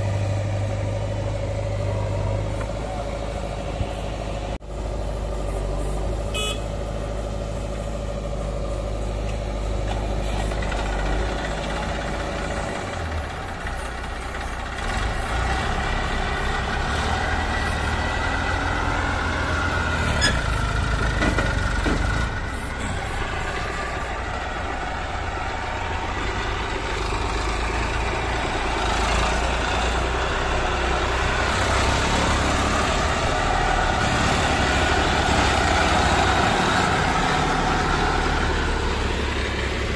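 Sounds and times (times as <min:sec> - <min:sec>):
backhoe diesel engine: 0:00.0 - 0:39.9
tractor engine: 0:00.0 - 0:39.9.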